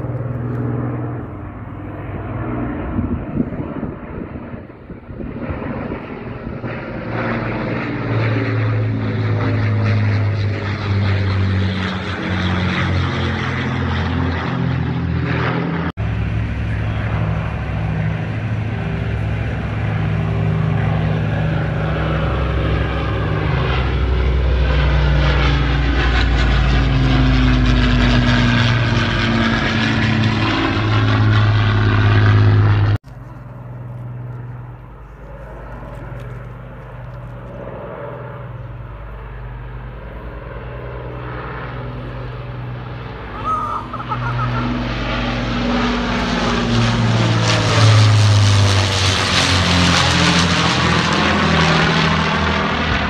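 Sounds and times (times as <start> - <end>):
propeller aircraft engines droning: 0.0 - 53.0.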